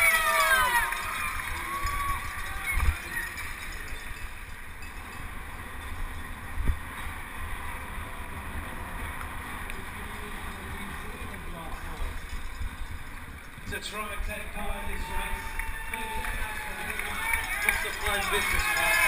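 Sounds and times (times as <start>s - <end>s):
wind rumble on microphone: 0.9s - 19.0s.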